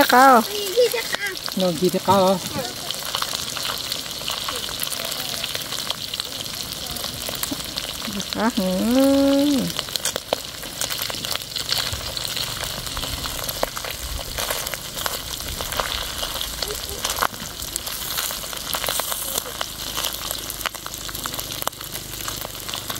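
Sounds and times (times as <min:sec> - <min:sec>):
fish sizzling in hot oil: 0:00.0 - 0:22.9.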